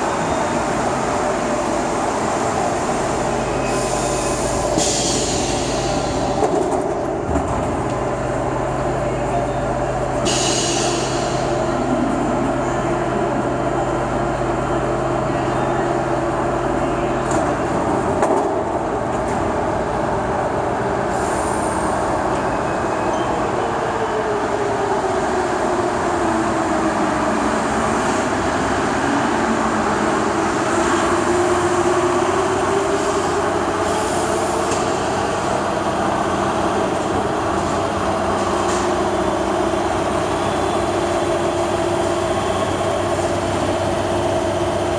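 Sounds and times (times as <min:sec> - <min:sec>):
train rail rumble: 0:00.0 - 0:44.9.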